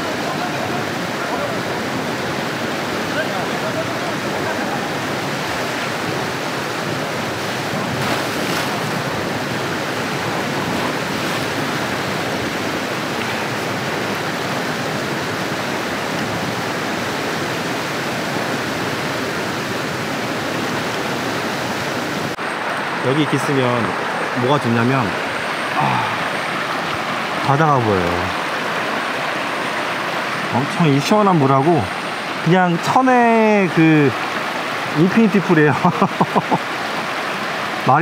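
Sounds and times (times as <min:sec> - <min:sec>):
water rushing over rocks: 0:00.0 - 0:38.0.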